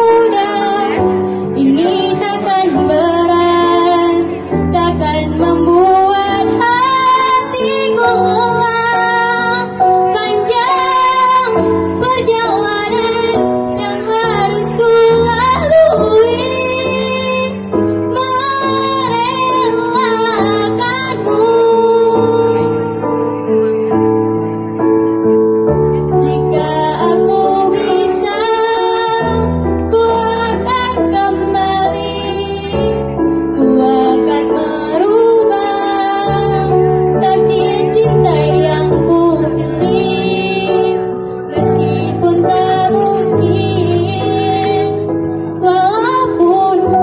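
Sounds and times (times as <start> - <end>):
girl singing pop ballad: 0.0 - 23.6, 26.0 - 47.0
instrumental accompaniment: 0.0 - 47.0.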